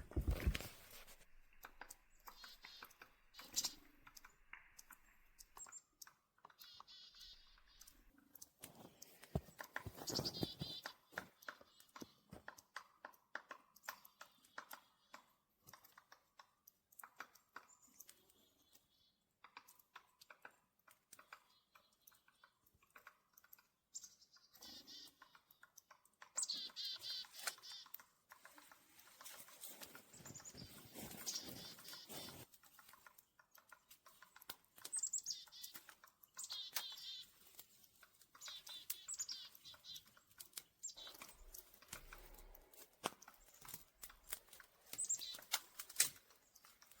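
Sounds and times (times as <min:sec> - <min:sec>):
faint clicks and crackles: 0:00.0 - 0:47.0
small songbirds chirping: 0:00.0 - 0:47.0.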